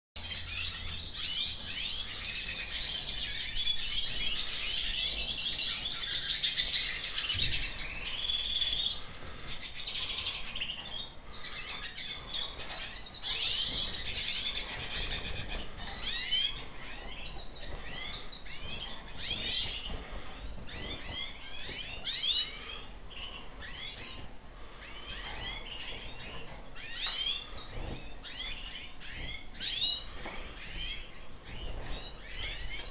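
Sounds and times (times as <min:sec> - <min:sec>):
small birds twittering and chirping: 0:00.2 - 0:32.9.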